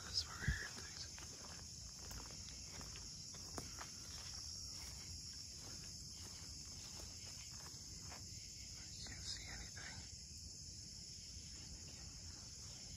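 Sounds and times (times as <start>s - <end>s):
crickets chirring: 0.0s - 12.9s.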